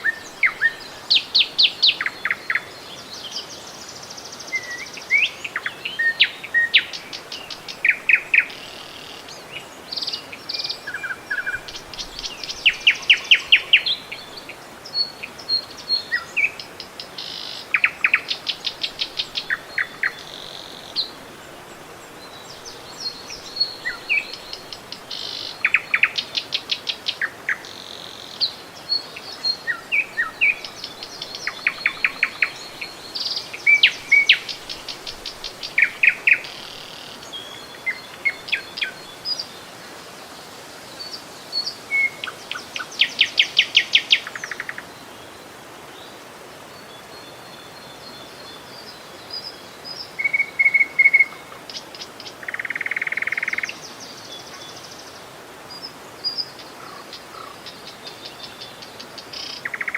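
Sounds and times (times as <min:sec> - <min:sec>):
river water rushing: 0:00.0 - 0:59.9
songbirds chirping and trilling: 0:00.0 - 0:59.9.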